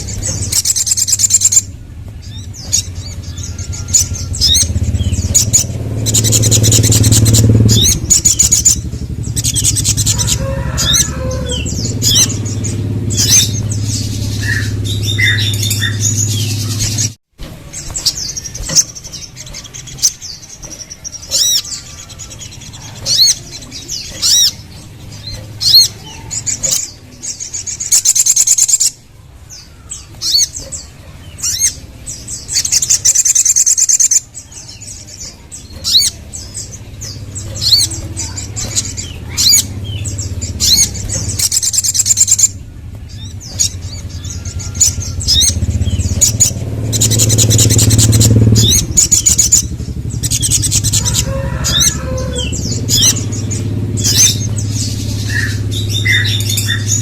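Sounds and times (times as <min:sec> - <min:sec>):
low rumble: 0:00.0 - 0:27.5, 0:34.3 - 0:57.0
bird chirps and trills: 0:00.0 - 0:57.0.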